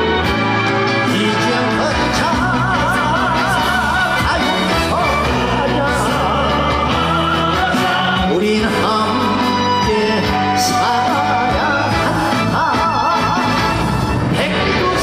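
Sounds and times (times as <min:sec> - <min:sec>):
band accompaniment with bass line: 0:00.0 - 0:15.0
man singing with vibrato: 0:00.0 - 0:15.0.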